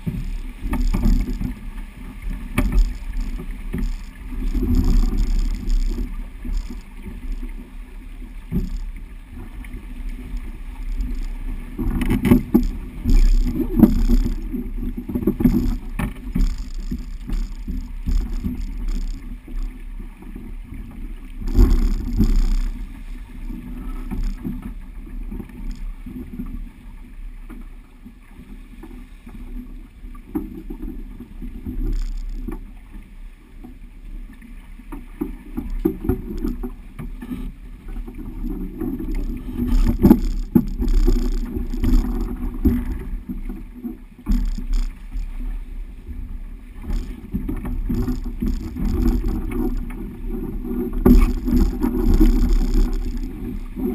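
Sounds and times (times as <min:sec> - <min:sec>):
water rushing along hull: 0:00.0 - 0:53.9.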